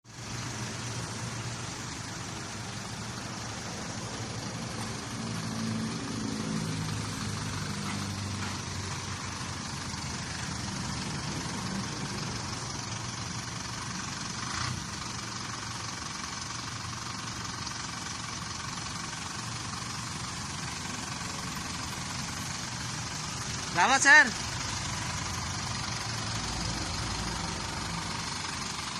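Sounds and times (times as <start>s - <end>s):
truck engine idling: 0.0s - 28.9s.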